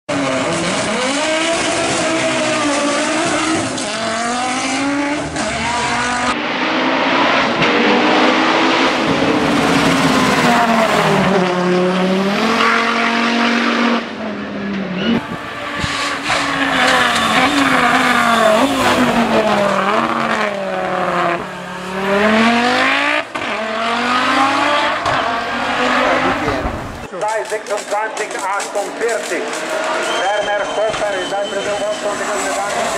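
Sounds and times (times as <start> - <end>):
race car engine revving through gears: 0.1 - 27.1, 28.4 - 32.9.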